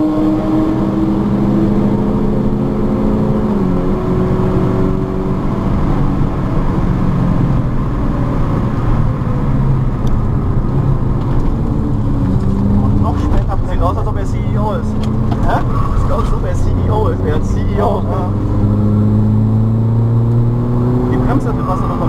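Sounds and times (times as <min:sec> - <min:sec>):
car engine running under load: 0:00.0 - 0:22.0
road and wind noise: 0:00.0 - 0:22.0.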